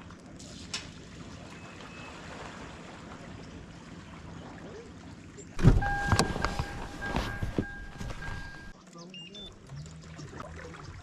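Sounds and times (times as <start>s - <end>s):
water around a kayak: 0.0s - 11.0s
wind: 0.0s - 11.0s.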